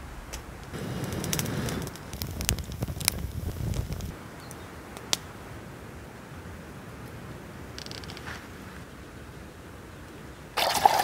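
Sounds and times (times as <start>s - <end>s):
small wood fire: 0.0s - 11.0s.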